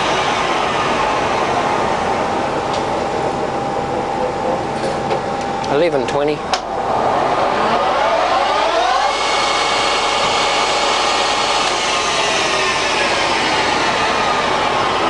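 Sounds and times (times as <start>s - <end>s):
lathe gear whine: 0.0s - 15.0s.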